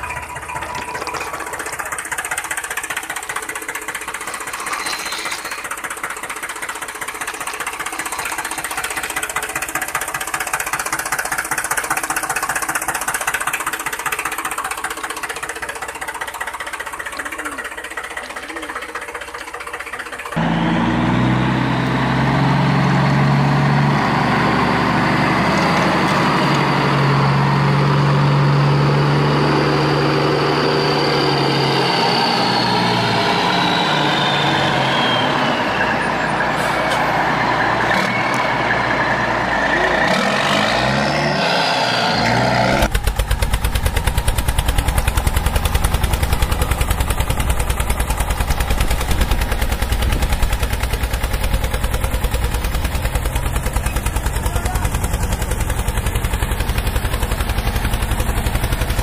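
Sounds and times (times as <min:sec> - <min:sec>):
heavy truck engine with whine: 0:00.0 - 0:59.0.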